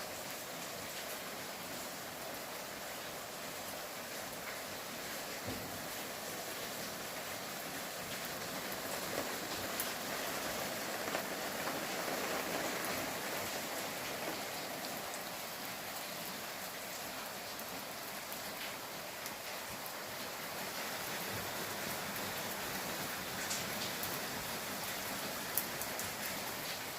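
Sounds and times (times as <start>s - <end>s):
rain pattering: 0.0s - 26.9s.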